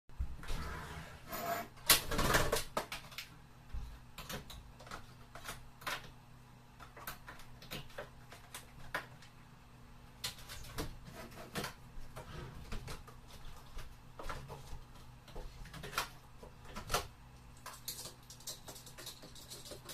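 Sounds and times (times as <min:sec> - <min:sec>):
faint steady hum: 0:00.1 - 0:19.9.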